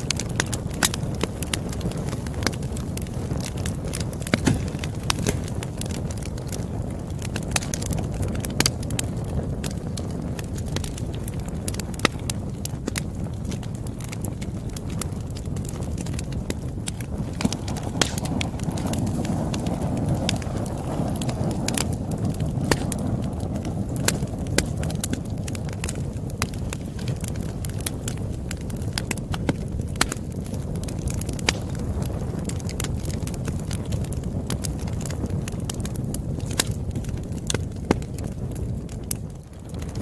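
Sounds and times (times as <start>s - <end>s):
burning wood popping and snapping: 0.0s - 40.0s
fire burning rush: 0.0s - 40.0s.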